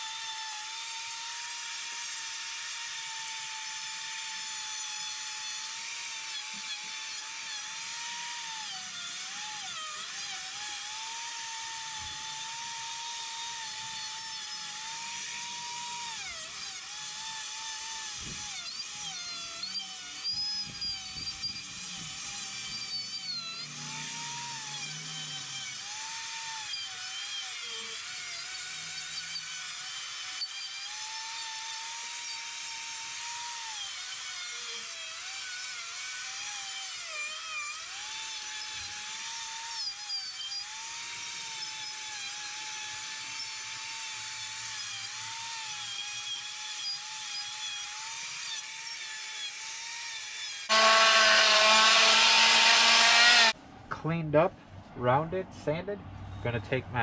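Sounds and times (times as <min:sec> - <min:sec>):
die grinder carving wood: 0:00.0 - 0:53.6.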